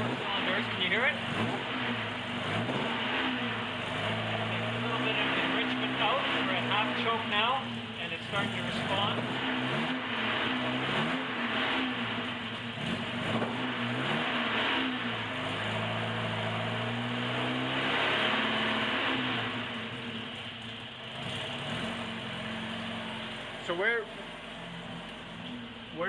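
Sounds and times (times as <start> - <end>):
car engine revving unevenly: 0.0 - 26.0.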